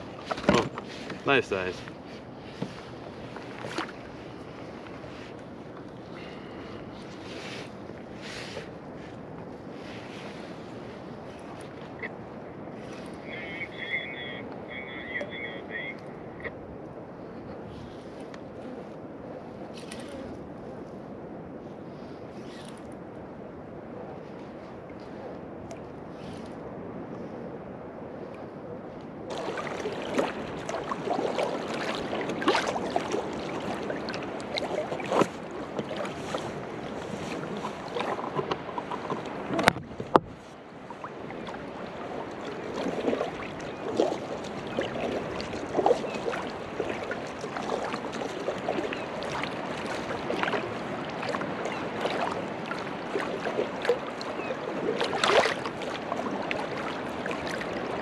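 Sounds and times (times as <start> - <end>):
small waves lapping against hull: 0.0 - 58.0.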